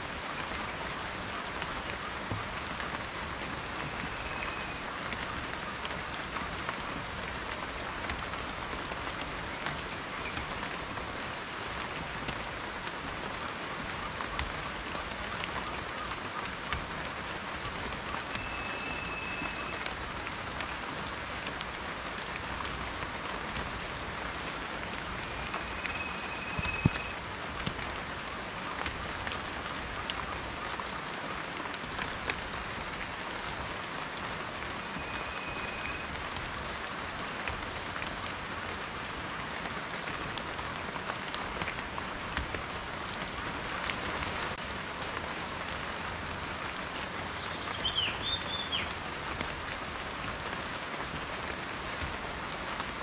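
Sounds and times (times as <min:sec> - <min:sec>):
raindrops pattering on a surface: 0:00.0 - 0:53.0.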